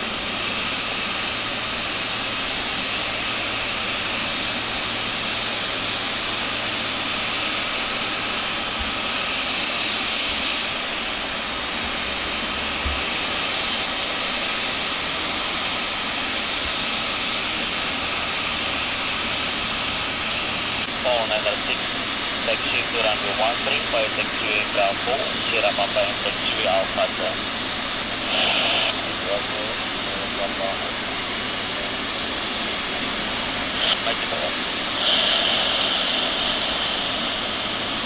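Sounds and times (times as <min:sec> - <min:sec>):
jet engines running: 0:00.0 - 0:38.0.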